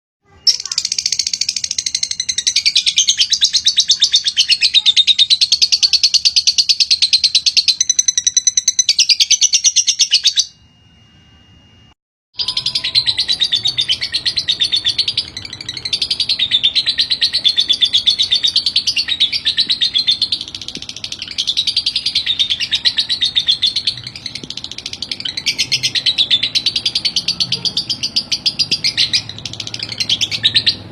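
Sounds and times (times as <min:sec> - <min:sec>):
bird chattering trill: 0:00.3 - 0:10.6, 0:12.4 - 0:30.9.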